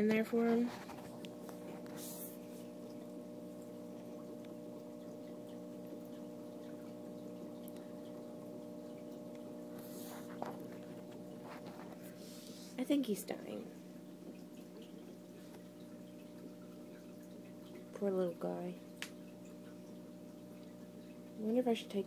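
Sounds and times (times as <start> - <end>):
aquarium filter hum: 0.0 - 22.0
faint trickling water: 0.0 - 22.0.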